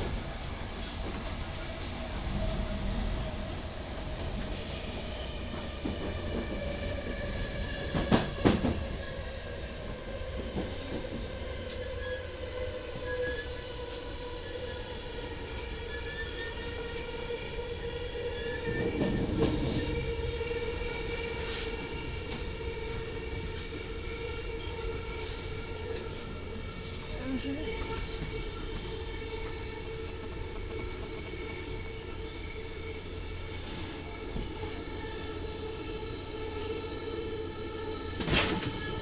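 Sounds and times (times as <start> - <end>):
train rumble: 0.0 - 39.0
train whine: 0.0 - 39.0.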